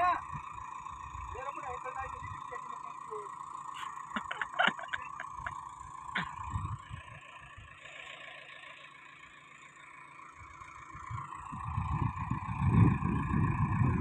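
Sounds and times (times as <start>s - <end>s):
tractor engine whining: 0.0s - 14.0s.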